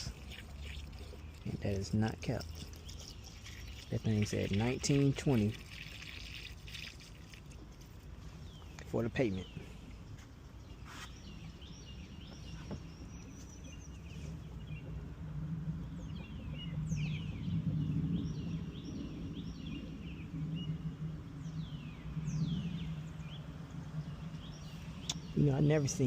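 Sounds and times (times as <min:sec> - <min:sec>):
birds chirping: 0:00.0 - 0:26.0
steady low hum: 0:00.0 - 0:26.0.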